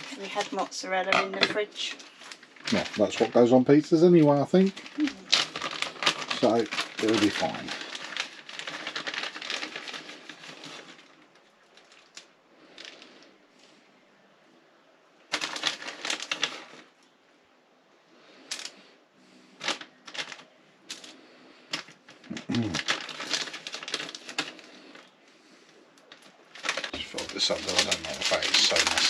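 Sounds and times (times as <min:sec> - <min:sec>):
packaging rustling and crinkling: 0:00.0 - 0:13.3, 0:15.3 - 0:17.0, 0:19.6 - 0:29.0.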